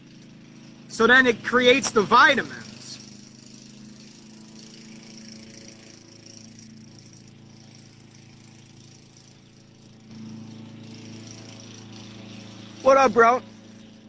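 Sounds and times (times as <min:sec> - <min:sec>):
low steady engine hum: 0:00.0 - 0:14.0.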